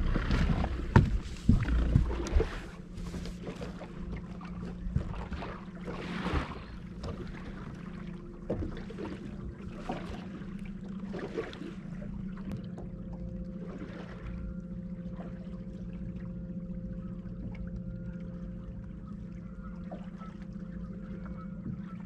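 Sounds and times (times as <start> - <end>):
boat motor humming: 0.0 - 22.0
waves slapping metal hull: 0.0 - 22.0.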